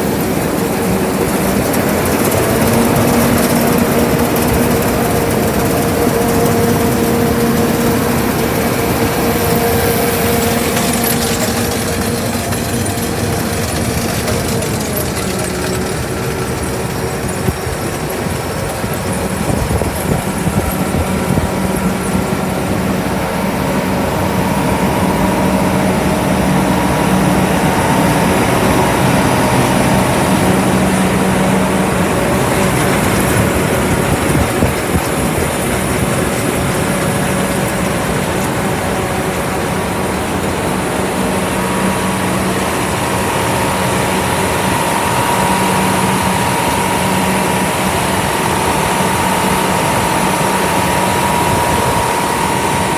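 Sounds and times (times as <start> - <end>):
broad mechanical noise: 0.0 - 52.9
diesel engine humming: 0.0 - 52.9
high steady whine: 0.0 - 52.9.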